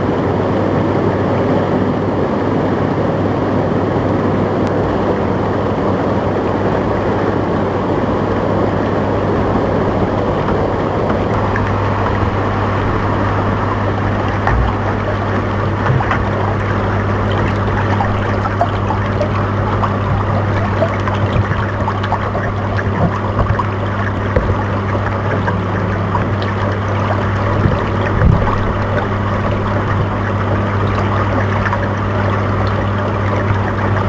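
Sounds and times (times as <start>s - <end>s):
hot tub jets bubbling water: 0.0s - 34.0s
pump humming: 0.0s - 34.0s.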